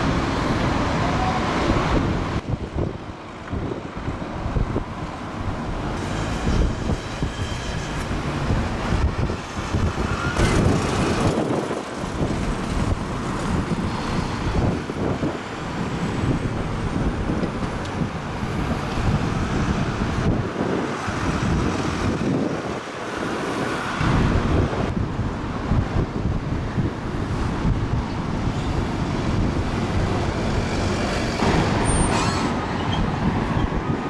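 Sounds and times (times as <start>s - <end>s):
street traffic: 0.0s - 34.0s
wind buffeting microphone: 0.0s - 34.0s.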